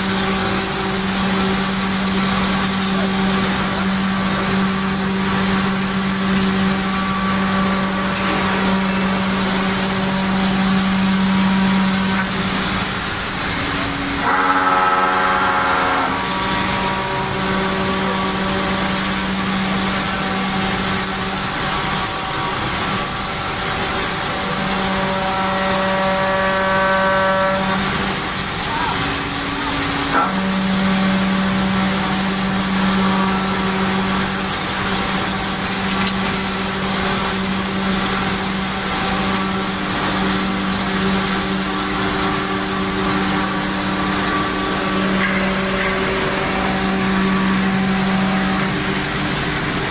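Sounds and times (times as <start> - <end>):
router machine cutting wood: 0.0 - 49.9.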